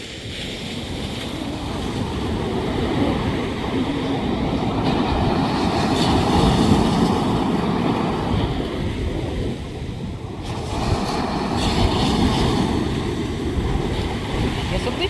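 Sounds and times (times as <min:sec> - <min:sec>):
surf rushing: 0:00.0 - 0:15.0
wind rumbling on microphone: 0:00.0 - 0:15.0.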